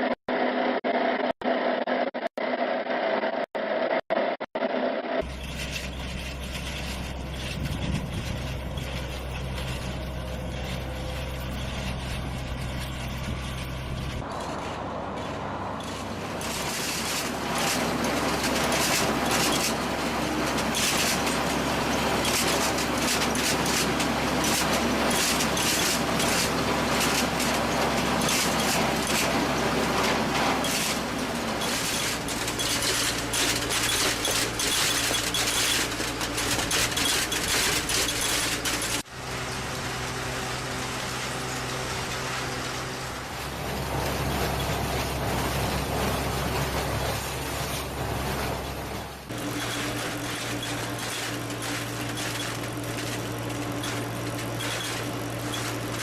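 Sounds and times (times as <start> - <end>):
farm machinery engine drone: 4.6 - 56.0
machine clattering and rattling: 5.2 - 56.0.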